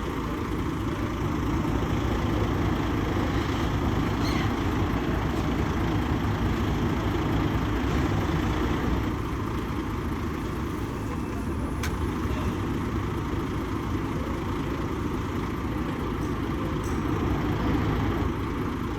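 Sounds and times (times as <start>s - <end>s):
rumble of engines and traffic: 0.0s - 18.9s.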